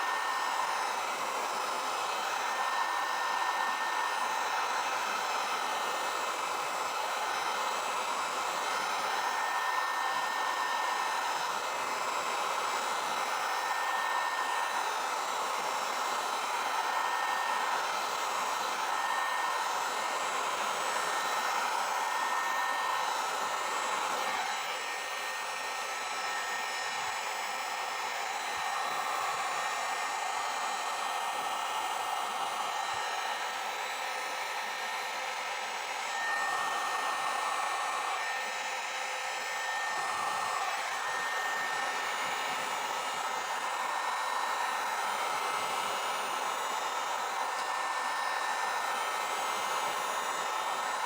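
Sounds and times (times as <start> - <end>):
hot-air dryer blowing: 0.0 - 51.0.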